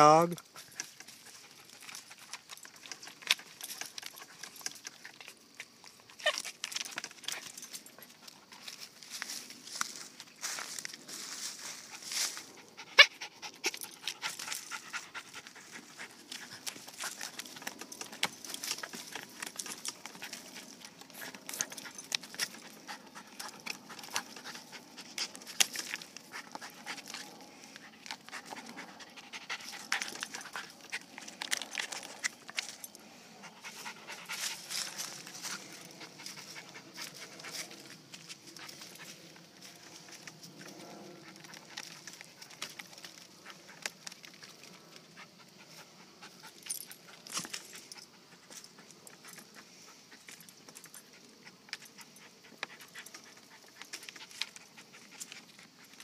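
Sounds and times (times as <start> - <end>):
dog panting and sniffing: 0.4 - 10.2, 11.5 - 56.0.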